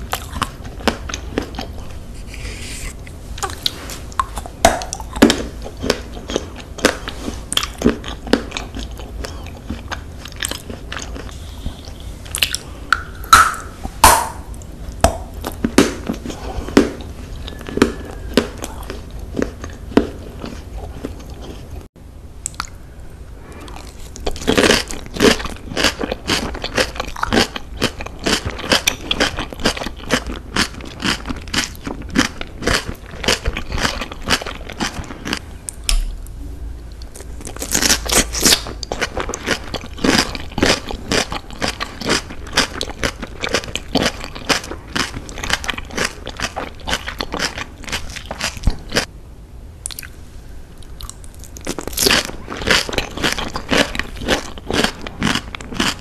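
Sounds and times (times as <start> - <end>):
crunchy chewing: 0.0 - 12.8, 14.5 - 22.8, 23.5 - 36.2, 37.0 - 49.1, 50.8 - 56.0.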